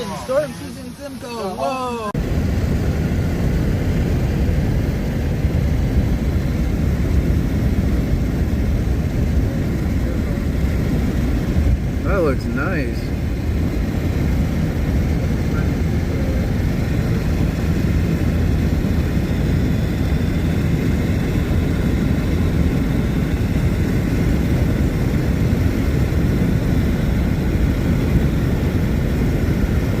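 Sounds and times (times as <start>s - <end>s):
car road rumble: 2.0s - 30.0s.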